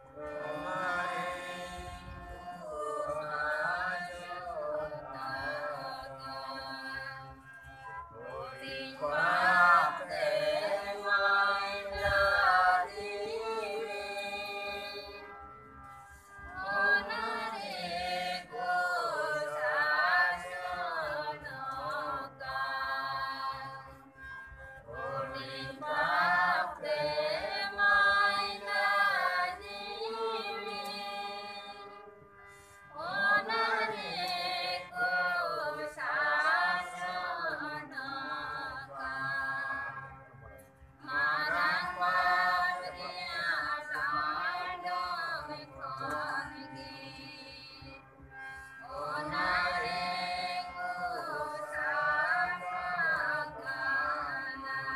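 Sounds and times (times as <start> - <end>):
congregation singing a hymn: 0.0 - 7.2, 8.3 - 15.2, 16.6 - 23.8, 24.9 - 31.9, 32.9 - 40.0, 41.0 - 47.9, 48.8 - 54.9.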